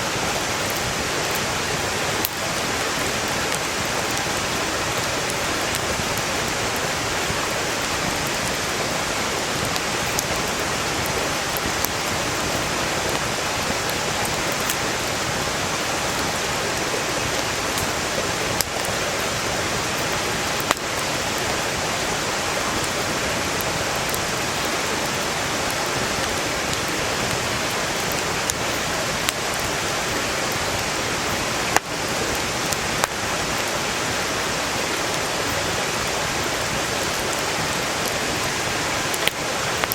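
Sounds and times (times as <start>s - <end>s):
mountain stream rushing: 0.0s - 39.9s
campfire popping: 0.3s - 39.9s.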